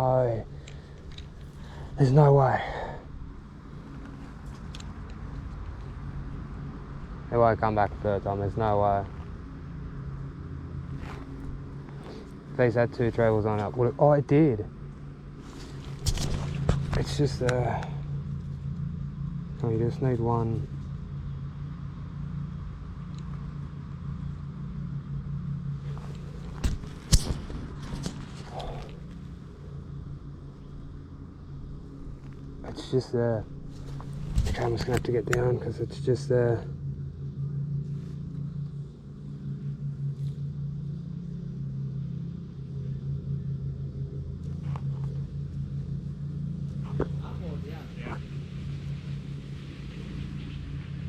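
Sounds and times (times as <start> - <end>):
low engine-like hum: 0.0 - 51.0.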